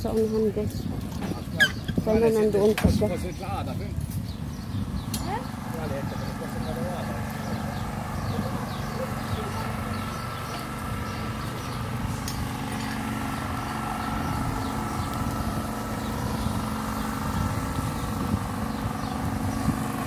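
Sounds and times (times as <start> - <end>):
motor running: 0.0 - 20.0.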